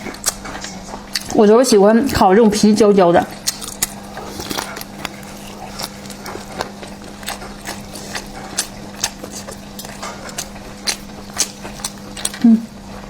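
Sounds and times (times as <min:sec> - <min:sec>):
crunchy chewing: 0:00.0 - 0:02.3, 0:03.2 - 0:13.0
steady low hum: 0:00.0 - 0:13.0.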